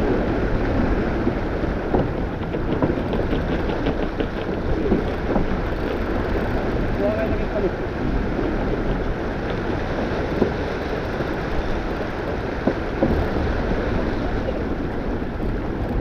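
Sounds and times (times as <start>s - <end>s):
water rushing along hull: 0.0s - 16.0s
wind on microphone: 0.0s - 16.0s.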